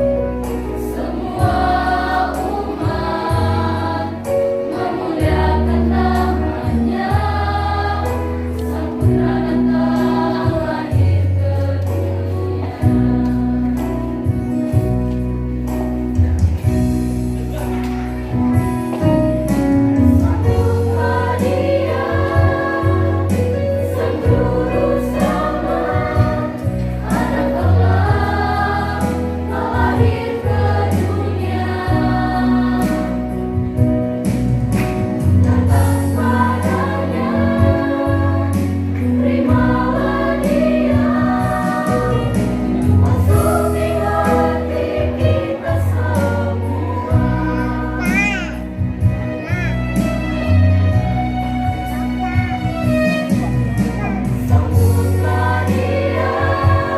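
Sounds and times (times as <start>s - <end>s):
mixed choir singing: 0.0s - 14.8s, 19.5s - 49.3s, 52.8s - 56.9s
deep bass accompaniment: 0.0s - 56.9s.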